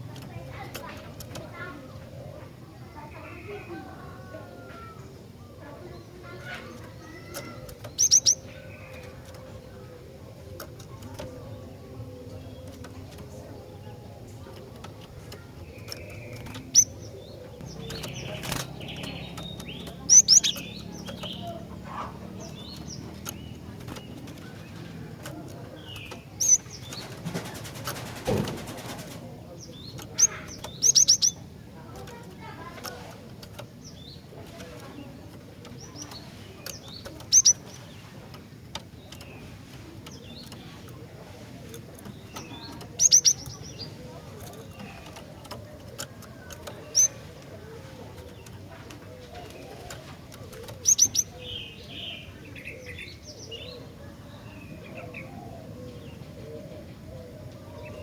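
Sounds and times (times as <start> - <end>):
bird chirping calls: 0.0 - 58.0.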